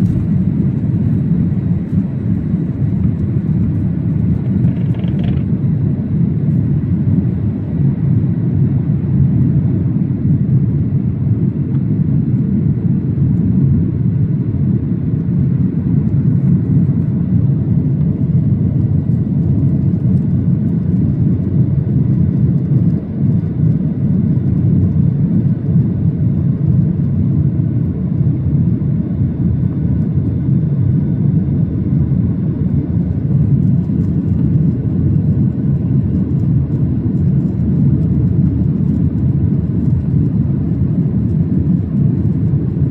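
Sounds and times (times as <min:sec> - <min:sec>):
airplane engines rumbling: 0:00.0 - 0:42.9.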